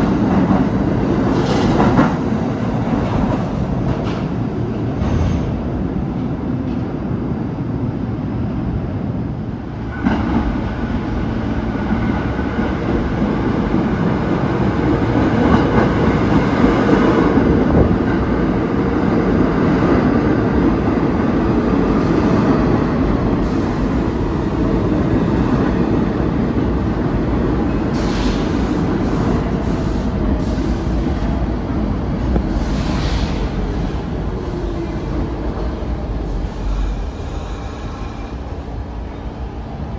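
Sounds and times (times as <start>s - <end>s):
subway train wheels rumbling: 0.0s - 39.9s.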